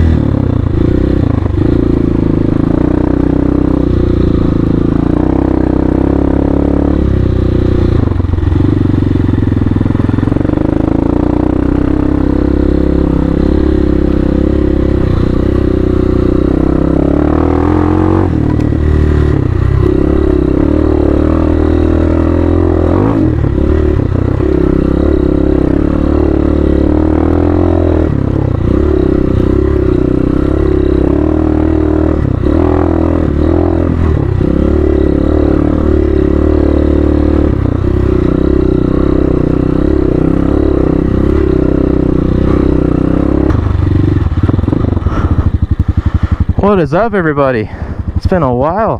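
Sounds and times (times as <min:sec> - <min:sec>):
motorcycle engine under load: 0:00.0 - 0:48.9.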